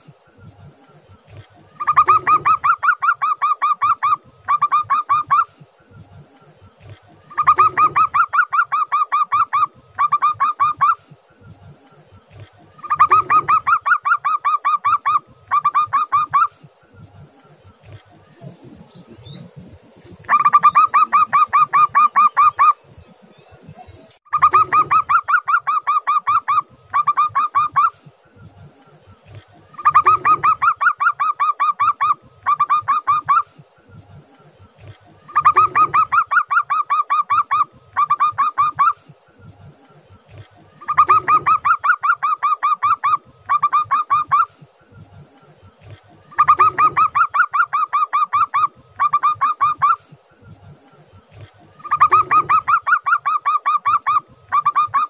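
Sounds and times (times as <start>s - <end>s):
dove cooing: 0.9s - 5.8s, 6.8s - 11.3s, 12.3s - 16.8s, 17.5s - 22.9s, 24.3s - 33.7s, 34.4s - 39.2s, 40.2s - 44.7s, 45.8s - 50.2s, 51.4s - 55.0s.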